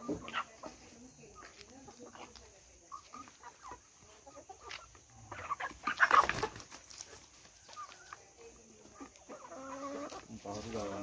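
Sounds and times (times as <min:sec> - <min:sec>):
chickens clucking: 0:00.0 - 0:11.0
chickens flurry: 0:00.0 - 0:11.0.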